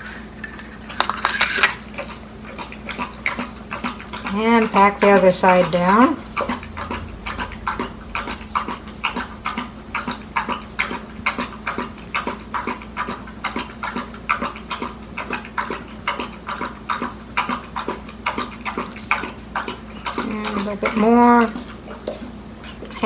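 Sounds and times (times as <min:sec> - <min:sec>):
dog lapping water: 0:00.0 - 0:23.0.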